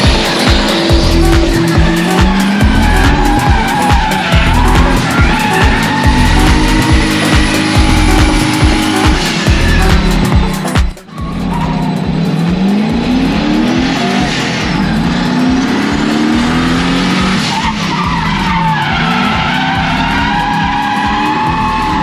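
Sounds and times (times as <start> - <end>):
car engine revving: 0.0 - 22.0
tyres skidding: 0.0 - 22.0.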